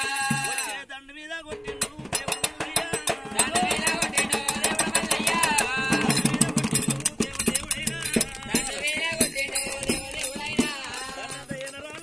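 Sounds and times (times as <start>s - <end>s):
fast drum beat: 0.0s - 0.8s, 1.4s - 12.0s
men singing: 0.0s - 12.0s.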